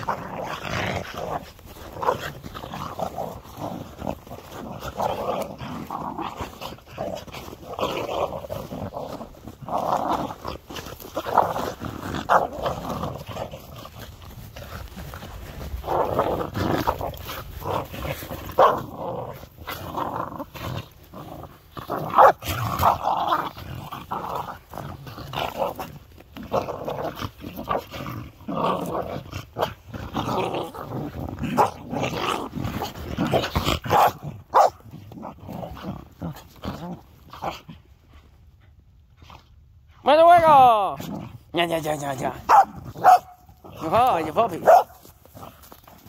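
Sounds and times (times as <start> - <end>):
dogs growling and yapping: 0.0 - 40.1, 40.9 - 46.0.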